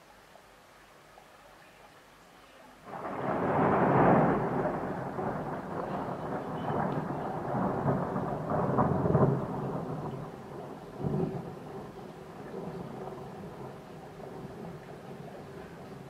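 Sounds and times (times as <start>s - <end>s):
falling rain: 0.0s - 16.0s
thunder rumbling: 2.8s - 16.0s.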